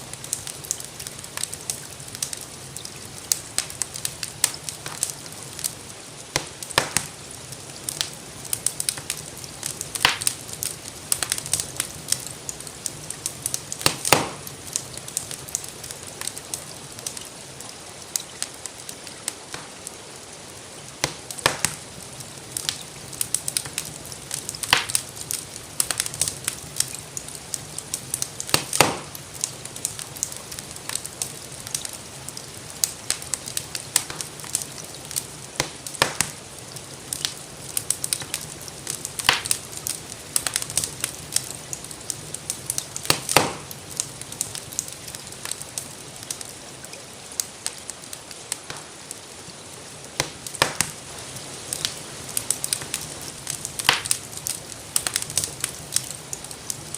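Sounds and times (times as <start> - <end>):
rain hissing: 0.0 - 56.9
wood fire crackling: 0.0 - 56.9.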